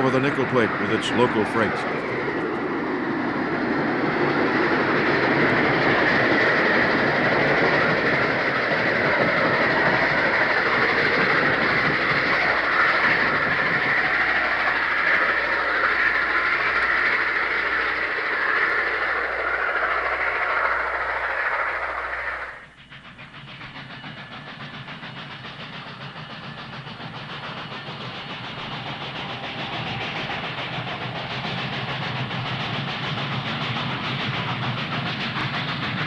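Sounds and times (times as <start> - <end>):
freight train wheels clattering: 0.0 - 36.0.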